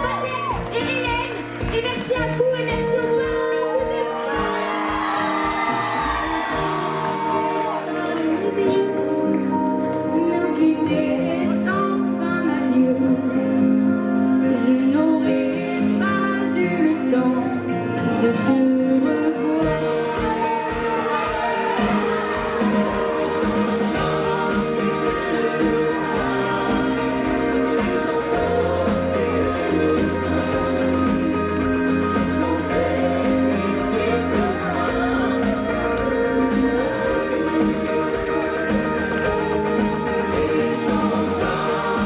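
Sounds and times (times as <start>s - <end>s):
woman singing: 0.0s - 9.3s, 10.0s - 13.8s, 14.4s - 42.0s
drums: 0.0s - 9.6s, 10.9s - 14.3s, 19.0s - 42.0s
electric guitar: 0.0s - 42.0s.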